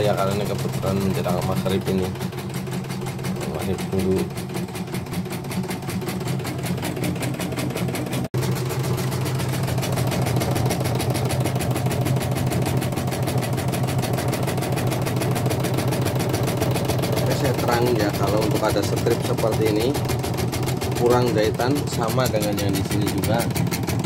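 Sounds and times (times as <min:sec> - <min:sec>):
embroidery machine stitching: 0:00.0 - 0:24.0.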